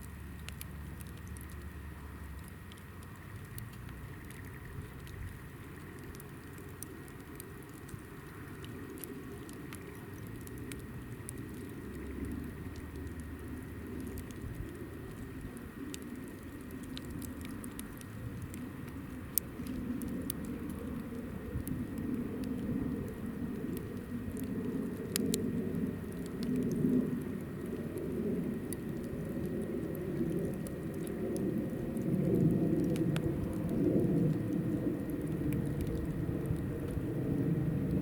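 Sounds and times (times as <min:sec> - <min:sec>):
campfire flames rumbling: 0:00.0 - 0:38.0
fire crackles and pops: 0:00.0 - 0:38.0.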